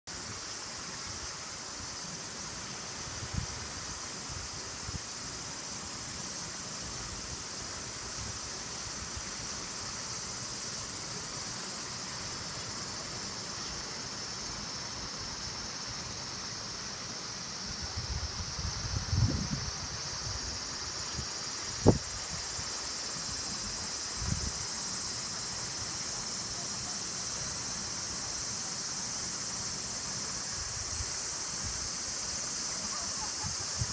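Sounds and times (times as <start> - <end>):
insect chorus: 0.1 - 33.9.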